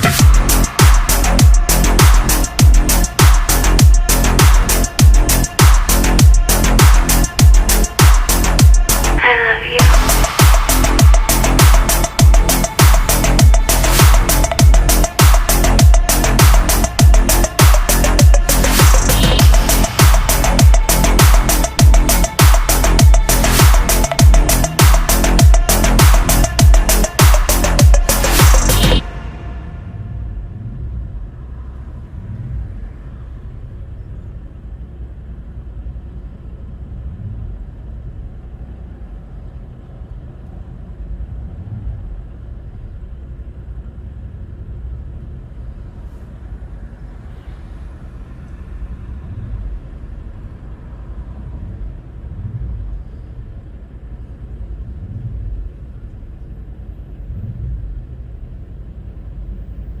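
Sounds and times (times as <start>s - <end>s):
vehicle road and wind rumble: 0.0s - 27.2s, 28.8s - 60.0s.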